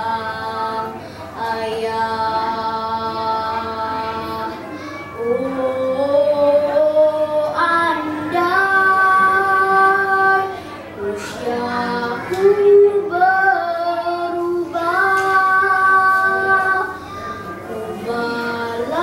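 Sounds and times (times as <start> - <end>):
boy singing: 0.0 - 19.0.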